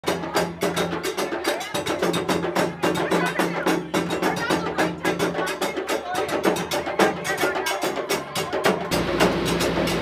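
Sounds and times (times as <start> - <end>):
quick busy percussion: 0.0 - 10.0.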